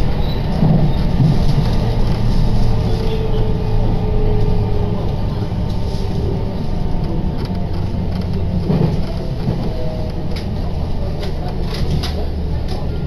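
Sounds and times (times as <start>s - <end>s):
train running on rails: 0.0s - 13.0s.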